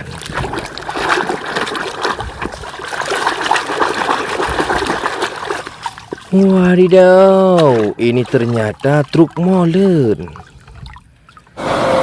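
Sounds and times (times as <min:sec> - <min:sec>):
water trickling and splashing: 0:00.0 - 0:11.6.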